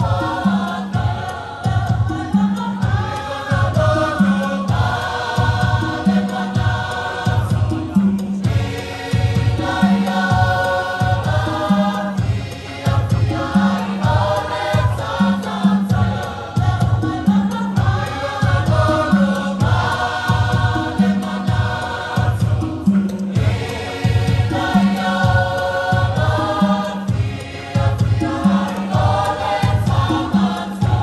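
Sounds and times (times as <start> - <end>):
choir singing a carol: 0.0 - 31.0
repeating bass beat: 0.0 - 31.0.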